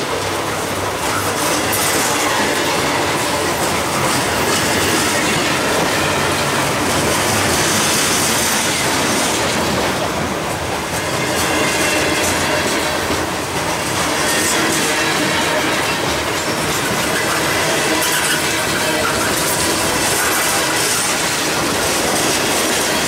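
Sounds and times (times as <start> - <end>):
train wheels rolling on rails: 0.0 - 23.0.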